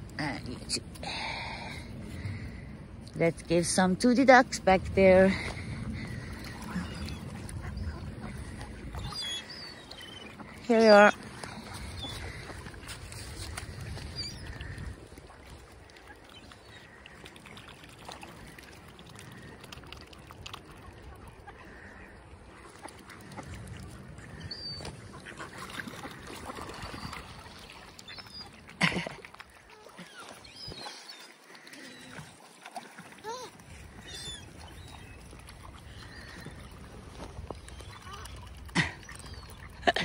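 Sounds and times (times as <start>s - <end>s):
waterbirds calling: 0.0s - 40.0s
ducks quacking: 3.6s - 19.7s, 20.5s - 30.8s, 33.7s - 40.0s.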